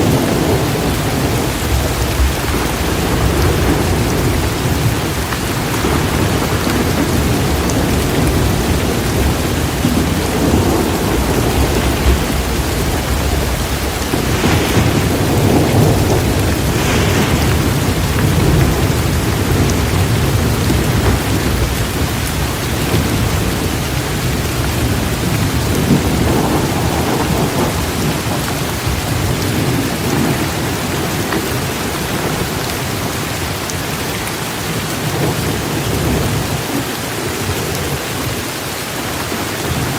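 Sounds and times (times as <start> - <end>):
rolling thunder rumble: 0.0 - 38.6
heavy rain pouring: 0.0 - 39.9.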